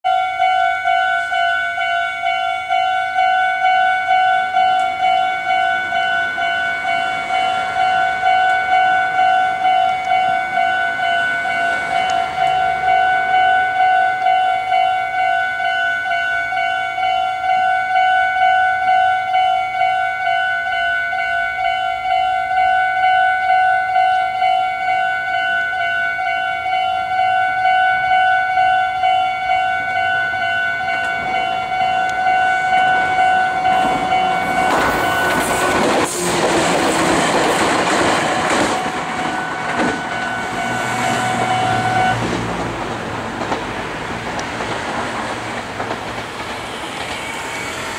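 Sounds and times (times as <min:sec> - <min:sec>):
level crossing alarm ringing: 0:00.0 - 0:42.4
train running noise: 0:00.1 - 0:47.9.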